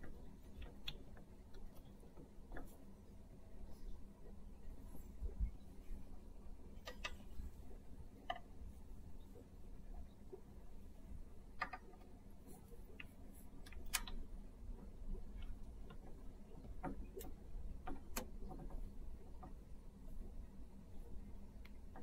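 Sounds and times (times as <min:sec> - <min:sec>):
faint low hum: 0:00.0 - 0:22.0
light clicks of tube pins: 0:00.0 - 0:22.0.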